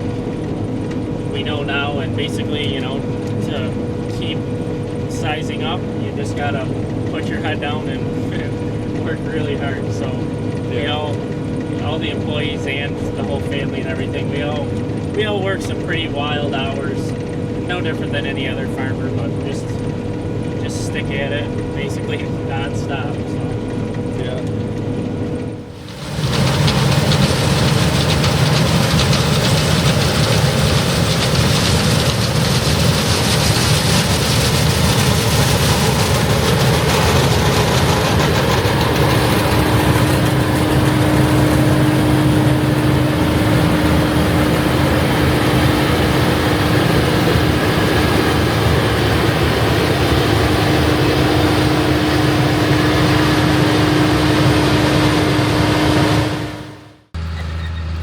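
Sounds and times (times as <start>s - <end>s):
heavy farm machinery engine: 0.0s - 58.0s
steady machine whine: 0.0s - 58.0s.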